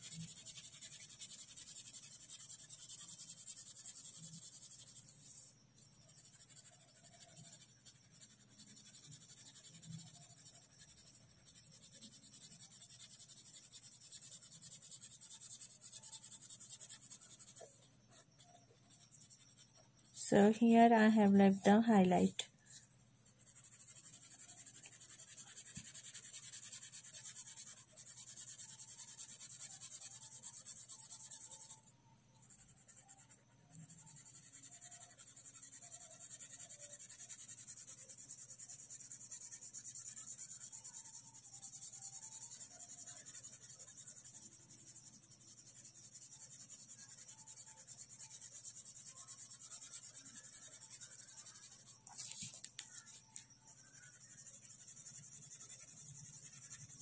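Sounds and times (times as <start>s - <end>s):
felt-tip marker scratching on paper: 0.0s - 57.0s.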